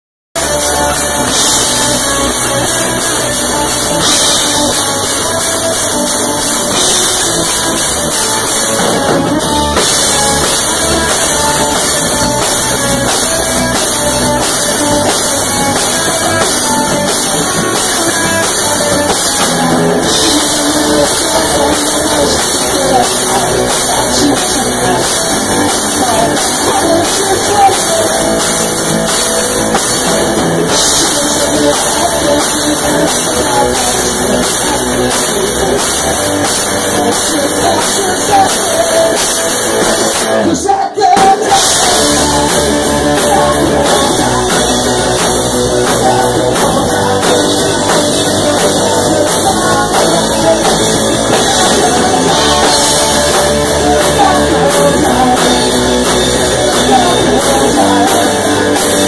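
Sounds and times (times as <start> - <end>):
electric guitar: 0.0 - 59.0
drum kit: 0.3 - 59.0.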